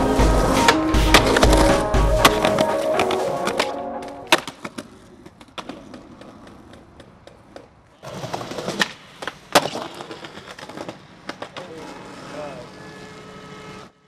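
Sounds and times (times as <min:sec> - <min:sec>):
skateboard clacking: 0:00.0 - 0:12.3
skateboard wheels rolling: 0:00.0 - 0:14.0.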